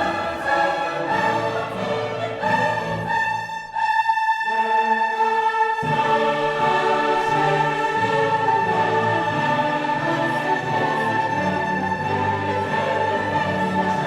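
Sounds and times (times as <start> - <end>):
orchestral music with choir: 0.0 - 14.0.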